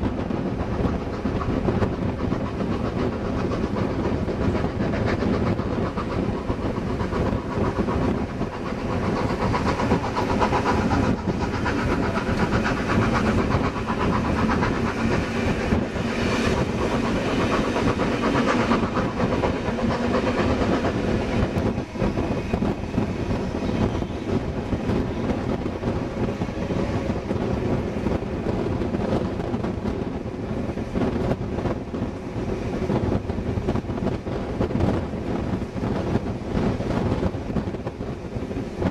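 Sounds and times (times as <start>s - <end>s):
train wheels rushing on rail: 0.0s - 38.9s.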